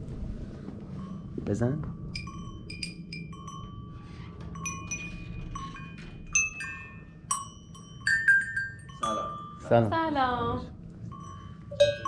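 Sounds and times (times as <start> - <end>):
ceramic and metal bells ringing: 1.0 - 12.0.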